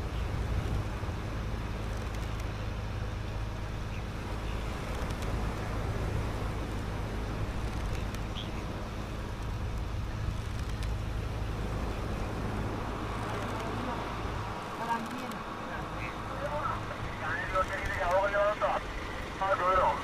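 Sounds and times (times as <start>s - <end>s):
boat engine droning: 0.0s - 20.0s
wind and water rushing: 0.0s - 20.0s.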